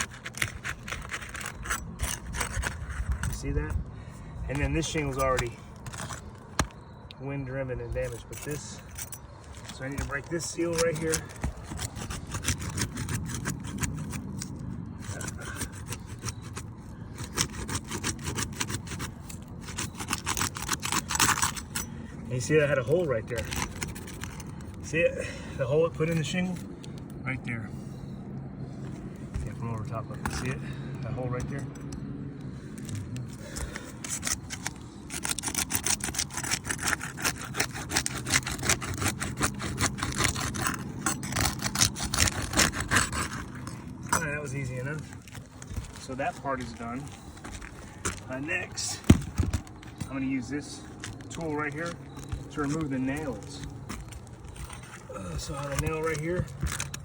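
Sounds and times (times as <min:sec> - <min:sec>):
shingle scraping and crackling: 0:00.0 - 0:57.0.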